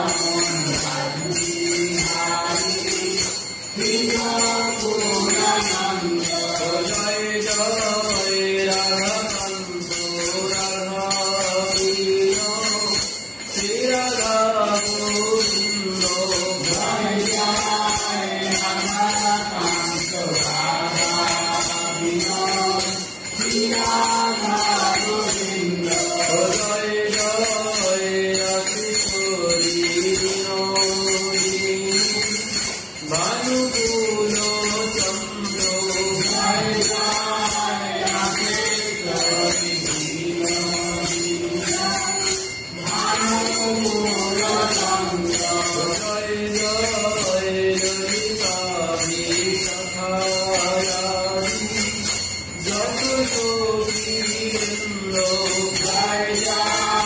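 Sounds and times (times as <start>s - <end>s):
devotional chant melody: 0.0s - 57.0s
jingling percussion: 0.0s - 57.0s.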